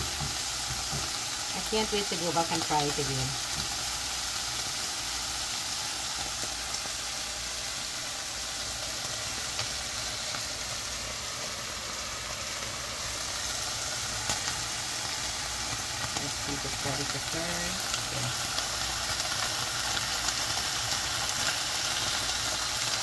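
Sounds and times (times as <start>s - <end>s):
cheese cubes sizzling in oil: 0.0s - 23.0s.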